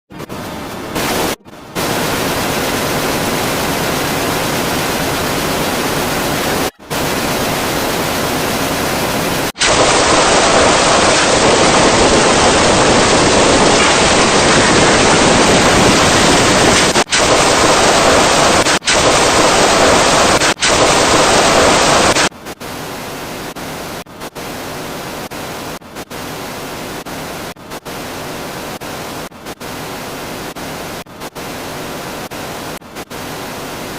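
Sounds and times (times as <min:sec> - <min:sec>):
static-like hiss: 0:00.1 - 0:33.9.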